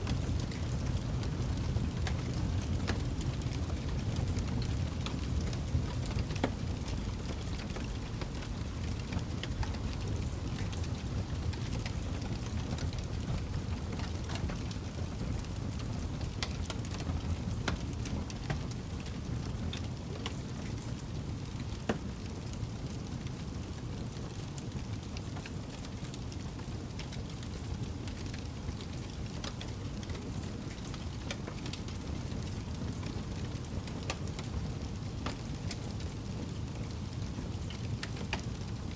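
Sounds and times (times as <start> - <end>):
burning wood crackling and popping: 0.1 - 38.9
flames rumbling: 0.1 - 38.9.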